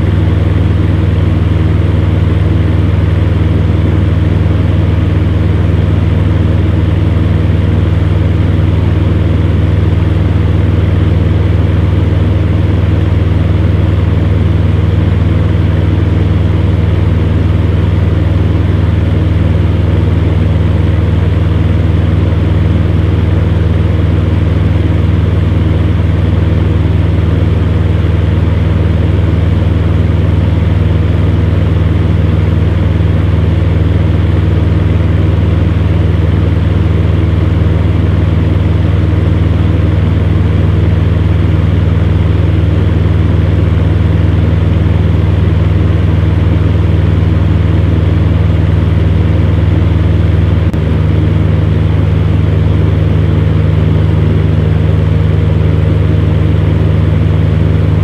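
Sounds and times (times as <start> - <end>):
fan heater running: 0.0 - 58.0.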